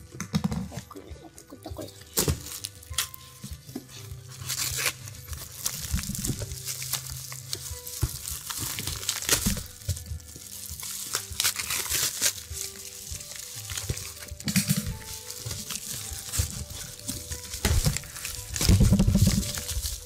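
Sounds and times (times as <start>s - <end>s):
quiet background music: 0.0s - 20.0s
cardboard packaging tearing: 1.9s - 20.0s
padded mailer crinkling: 2.0s - 20.0s.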